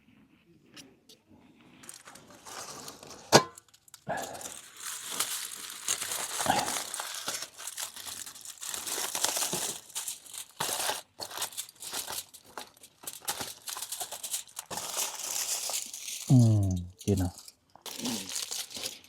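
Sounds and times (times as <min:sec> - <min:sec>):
wrapping crinkling: 0:01.7 - 0:19.0.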